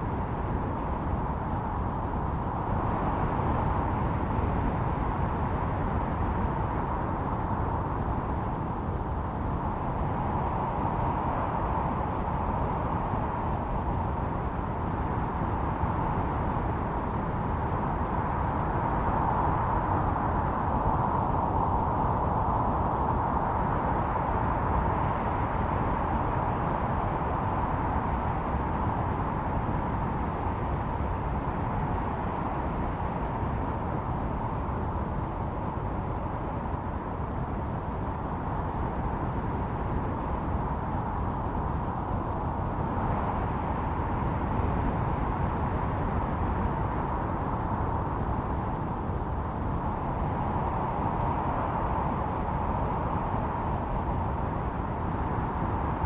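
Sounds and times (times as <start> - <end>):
howling blizzard wind: 0.0 - 56.0.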